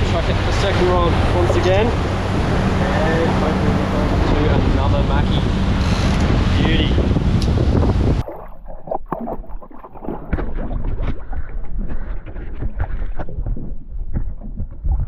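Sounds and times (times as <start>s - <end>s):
muffled water gurgling and sloshing: 0.0s - 15.0s.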